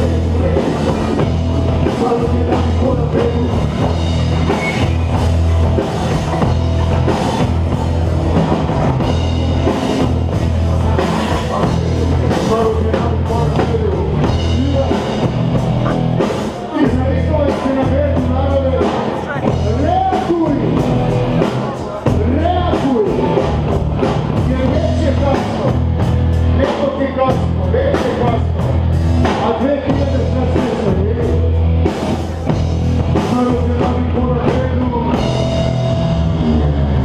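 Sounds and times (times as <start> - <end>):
bass guitar: 0.0 - 37.0
drum kit: 0.0 - 37.0
electric guitar: 0.0 - 37.0.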